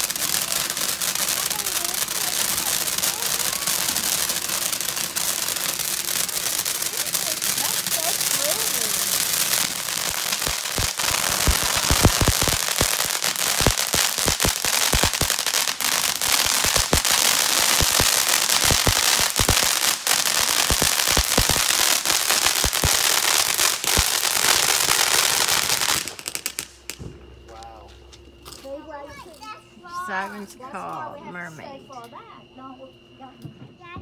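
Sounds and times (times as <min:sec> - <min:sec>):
firework fountain hissing: 0:00.0 - 0:27.4
sharp crackling pops: 0:00.0 - 0:27.4.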